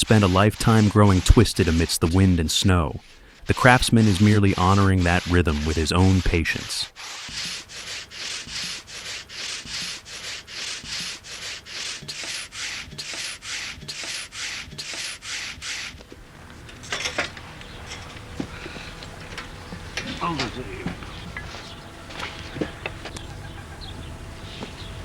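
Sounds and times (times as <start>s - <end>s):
hand saw cutting tree trunk: 0.0s - 16.0s, 18.4s - 23.0s.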